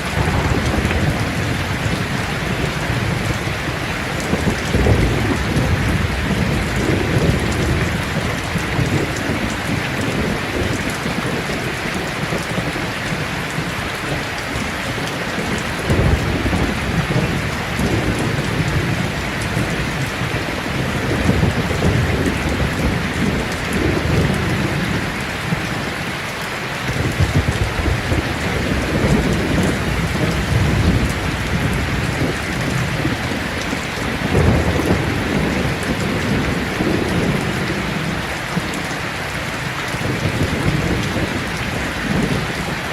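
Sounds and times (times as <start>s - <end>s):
heavy rain on a tin roof: 0.0s - 42.9s
thunder rumbling: 0.0s - 42.9s.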